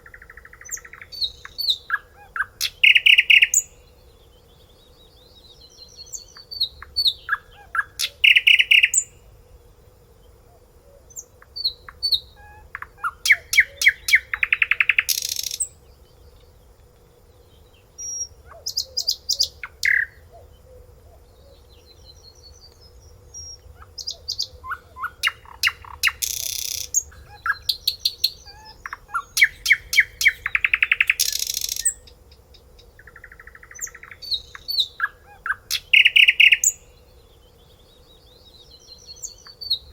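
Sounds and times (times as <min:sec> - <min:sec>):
songbird singing trills: 0:00.0 - 0:09.4, 0:10.0 - 0:39.9
faint steady hum: 0:00.0 - 0:39.9.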